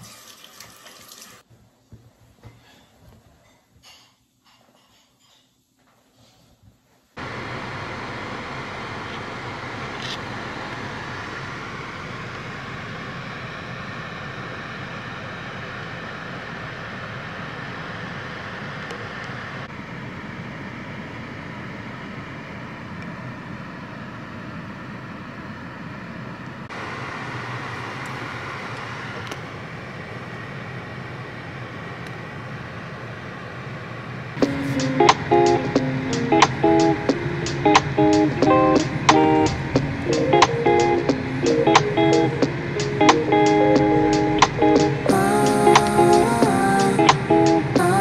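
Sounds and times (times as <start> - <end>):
air conditioning blower running: 7.2 - 48.0
car engine idling: 7.2 - 48.0.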